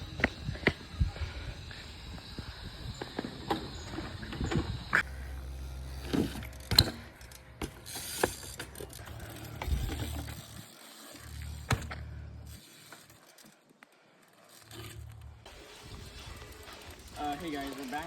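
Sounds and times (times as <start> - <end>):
bike freewheel hub clicking: 0.0 - 18.0.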